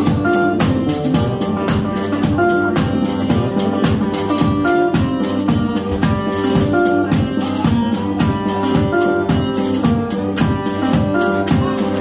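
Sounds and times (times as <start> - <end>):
resonator guitar: 0.0 - 12.0.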